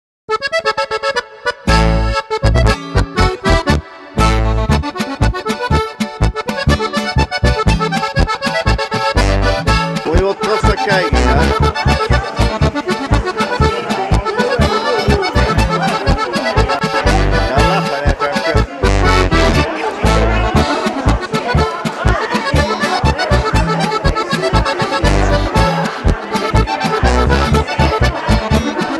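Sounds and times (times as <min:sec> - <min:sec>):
accordion-led traditional music: 0:00.3 - 0:28.9.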